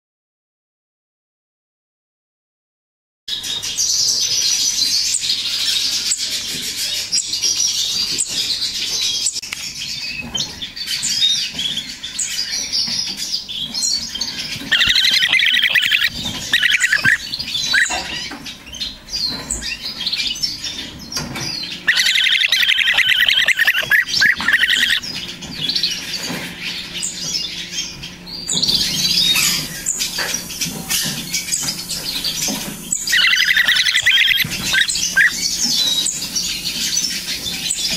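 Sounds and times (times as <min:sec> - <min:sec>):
nestlings food-begging calls: 0:03.6 - 0:37.9.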